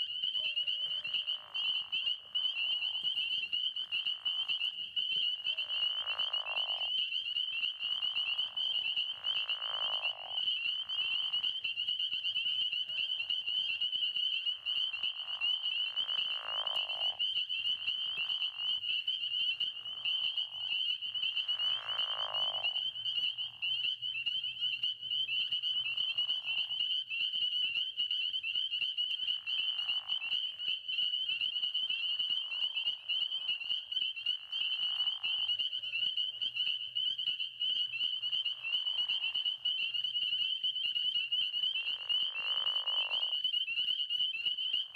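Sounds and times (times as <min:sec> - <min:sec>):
frogs trilling: 0:00.0 - 0:44.9
low frog calls: 0:00.0 - 0:44.9.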